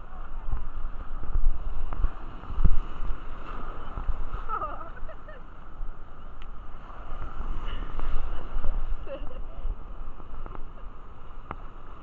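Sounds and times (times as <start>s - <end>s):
sea water noise: 0.0s - 12.0s
wind noise on microphone: 0.0s - 12.0s.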